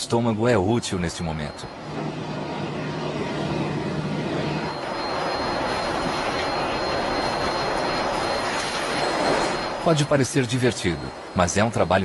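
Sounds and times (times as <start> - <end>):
faint high whine: 0.0 - 12.0
jet noise in flight: 0.0 - 12.0
low hum: 0.8 - 12.0.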